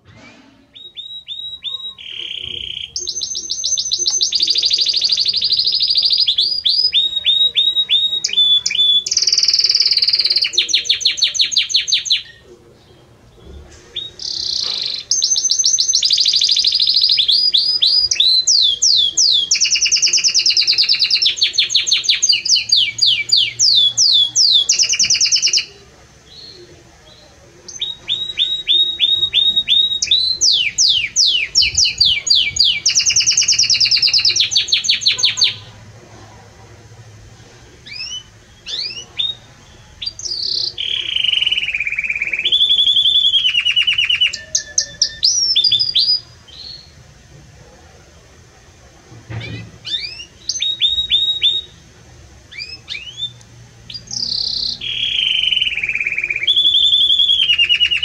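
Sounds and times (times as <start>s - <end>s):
canary singing trills: 0.0s - 36.0s, 37.7s - 47.1s, 49.4s - 58.0s.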